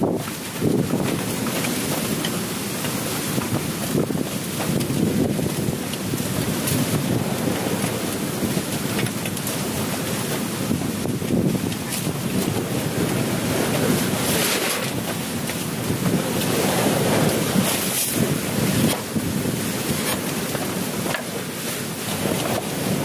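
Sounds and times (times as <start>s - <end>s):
waves washing: 0.0s - 23.0s
wind buffeting microphone: 0.0s - 23.0s.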